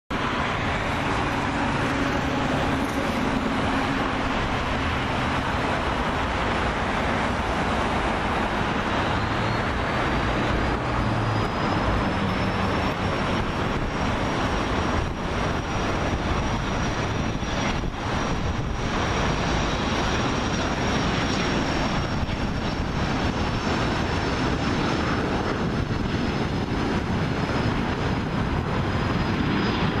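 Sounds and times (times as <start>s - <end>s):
jet engines running with whine: 0.1s - 30.0s.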